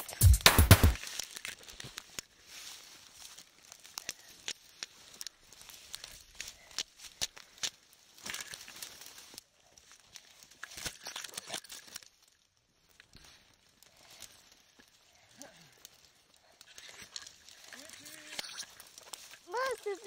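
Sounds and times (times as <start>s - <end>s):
dry grass rustling: 0.1s - 20.0s
twigs snapping: 0.4s - 20.0s.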